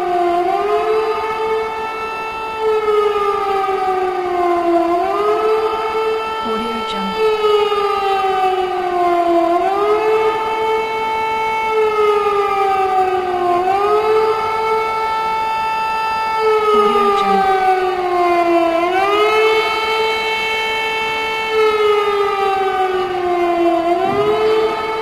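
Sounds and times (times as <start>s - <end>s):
air raid siren wailing: 0.0s - 25.0s.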